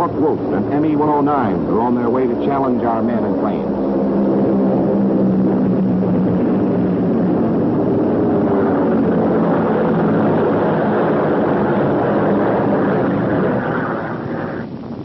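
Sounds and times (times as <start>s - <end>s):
piston aircraft engines droning: 0.0s - 15.0s.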